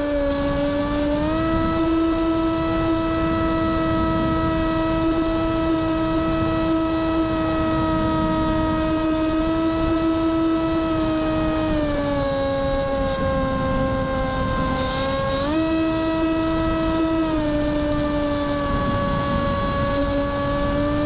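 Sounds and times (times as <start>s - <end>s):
electric motor and propeller drone: 0.0s - 21.0s
wind rushing over microphone: 0.0s - 21.0s.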